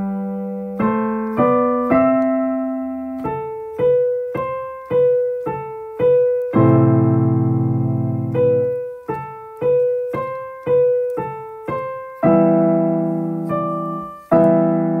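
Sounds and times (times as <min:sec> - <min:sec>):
piano chords: 0:00.0 - 0:15.0
piano repeated note: 0:00.0 - 0:15.0.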